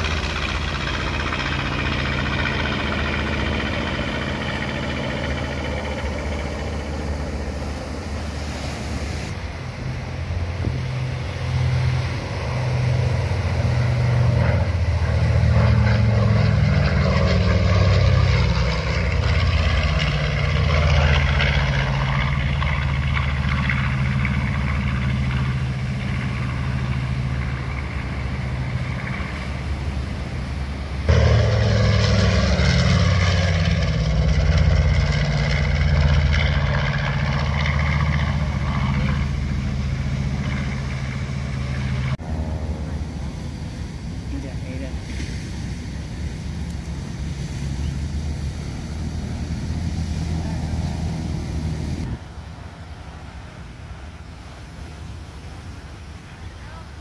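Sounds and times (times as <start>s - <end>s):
propeller plane droning past: 0.0s - 57.0s
wind: 0.0s - 57.0s.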